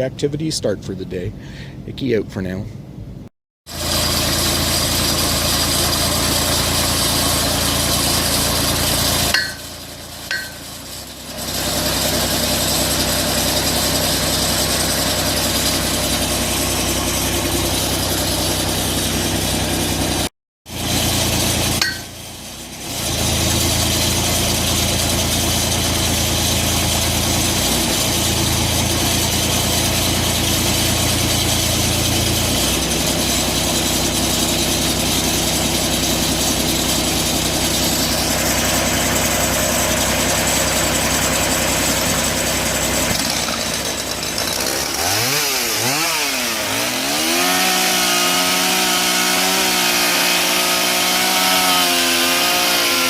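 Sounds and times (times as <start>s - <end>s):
small gasoline engine revving: 3.7s - 53.0s.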